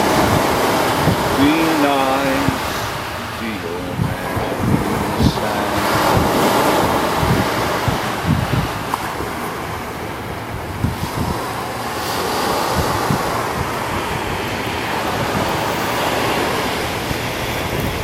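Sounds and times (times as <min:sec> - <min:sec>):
ocean surf washing onto beach: 0:00.0 - 0:18.0
wind buffeting microphone: 0:00.0 - 0:18.0.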